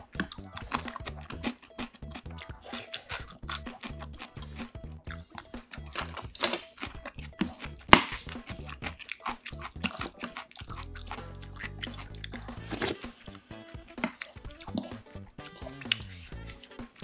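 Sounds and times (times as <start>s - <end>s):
chewing and wet mouth sounds: 0.0s - 17.0s.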